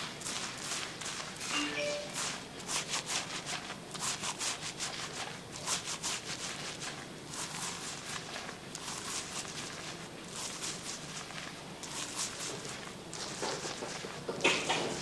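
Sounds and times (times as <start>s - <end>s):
fingers scrubbing lathered hair: 0.0s - 15.0s.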